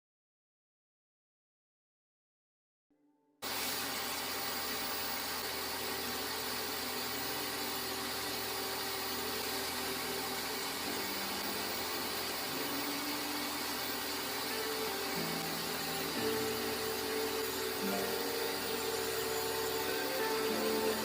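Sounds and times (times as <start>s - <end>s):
workshop tool motor running: 3.4s - 21.0s.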